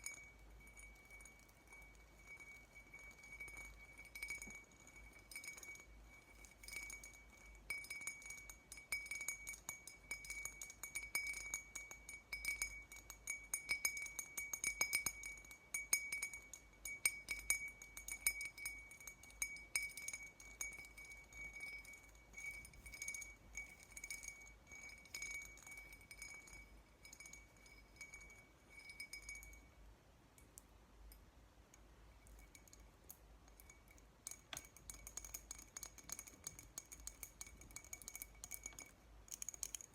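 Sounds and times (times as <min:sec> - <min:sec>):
tapping on glass bottle: 0:00.0 - 0:29.7, 0:32.2 - 0:39.9.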